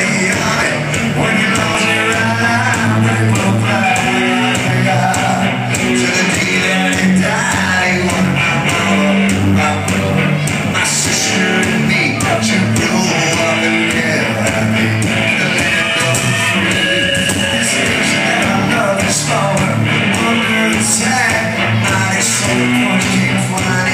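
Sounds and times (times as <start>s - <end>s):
drums: 0.0s - 23.9s
electric guitars: 0.0s - 23.9s
person singing: 0.0s - 23.9s.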